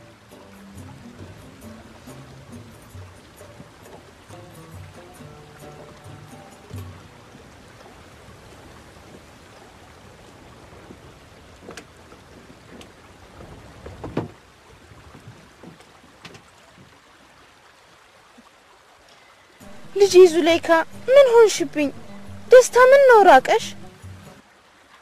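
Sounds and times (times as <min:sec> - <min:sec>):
river water washing around boat: 0:00.0 - 0:25.0.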